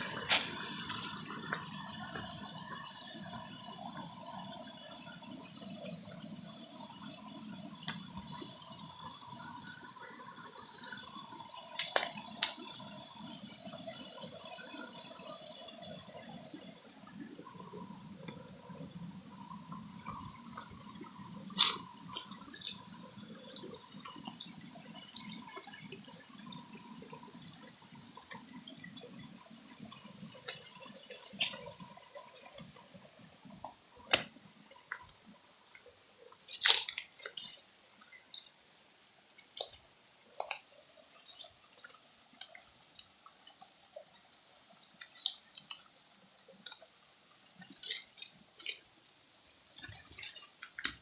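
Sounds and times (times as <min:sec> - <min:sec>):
water dripping: 0:00.0 - 0:05.9, 0:07.0 - 0:51.0.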